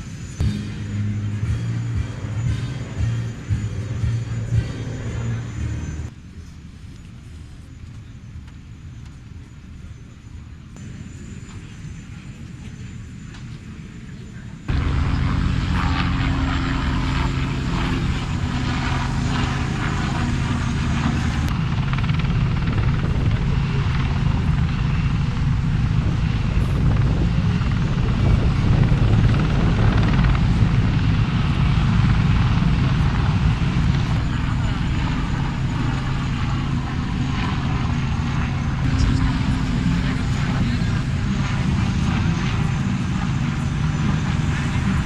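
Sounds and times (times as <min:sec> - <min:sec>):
helicopter rotor and turbine: 0:00.0 - 0:45.0.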